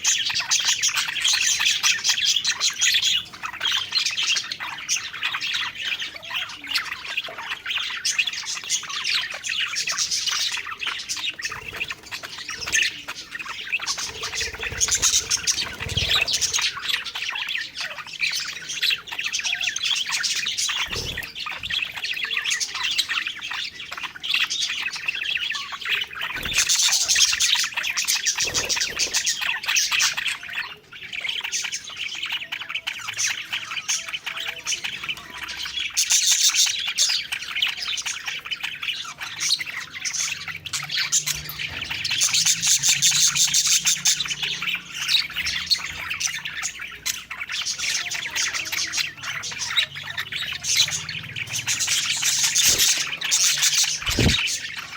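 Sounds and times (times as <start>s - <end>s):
budgerigars chattering and warbling: 0.0s - 54.9s
parakeet squawks: 0.0s - 54.9s.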